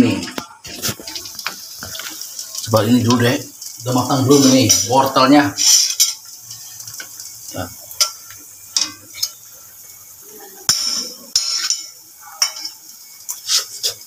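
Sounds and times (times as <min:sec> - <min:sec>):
utensils clinking on metal wok: 0:00.3 - 0:09.5, 0:10.5 - 0:14.0.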